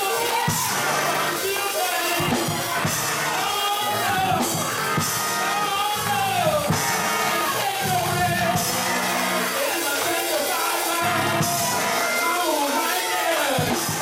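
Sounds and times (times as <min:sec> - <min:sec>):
drums and cymbals: 0:00.0 - 0:14.0
gospel choir singing: 0:00.0 - 0:14.0
live band: 0:00.0 - 0:14.0.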